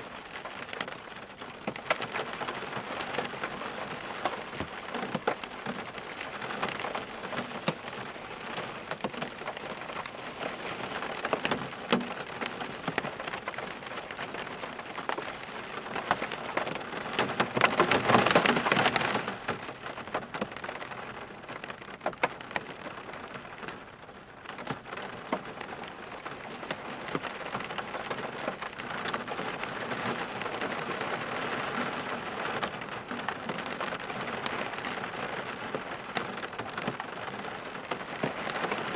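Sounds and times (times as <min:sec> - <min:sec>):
raindrops striking close by: 0:00.0 - 0:38.9
steady rain: 0:00.0 - 0:38.9.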